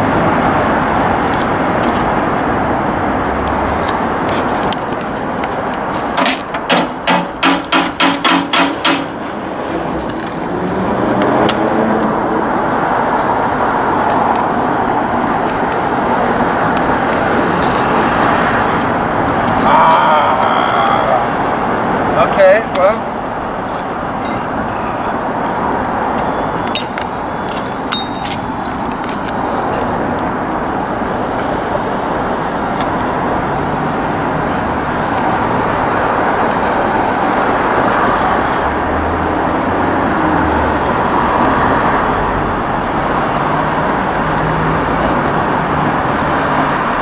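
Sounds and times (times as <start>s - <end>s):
street traffic noise: 0.0s - 47.0s.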